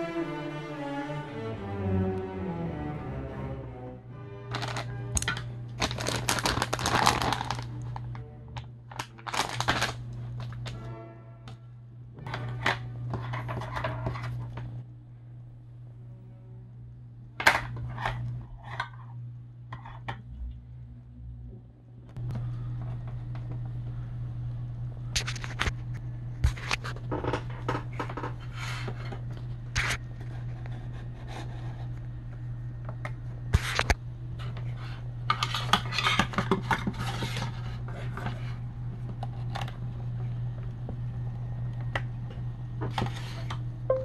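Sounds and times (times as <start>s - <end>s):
low hum: 0.0s - 42.8s, 43.5s - 44.0s.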